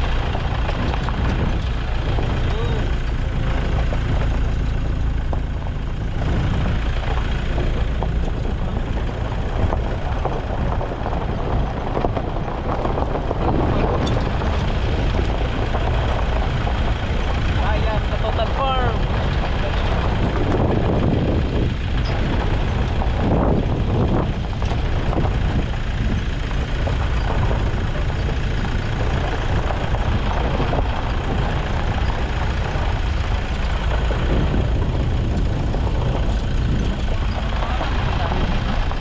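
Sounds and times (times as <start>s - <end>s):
car engine rumble: 0.0s - 39.0s
tyres on gravel: 0.0s - 39.0s.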